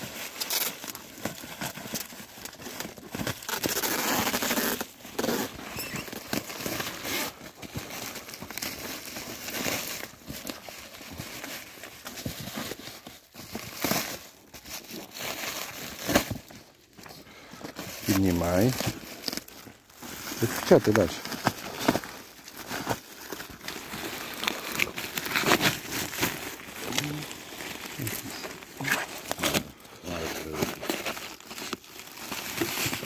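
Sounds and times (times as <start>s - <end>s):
plastic wrapping crinkling and tearing: 0.0s - 33.0s.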